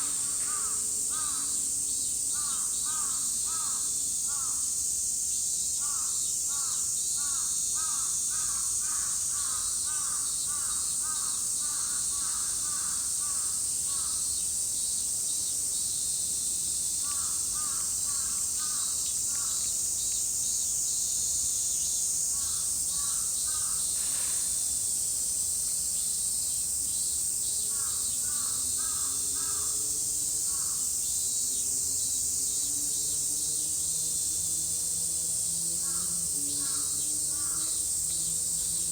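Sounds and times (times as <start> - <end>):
cicadas shrilling: 0.0 - 38.9.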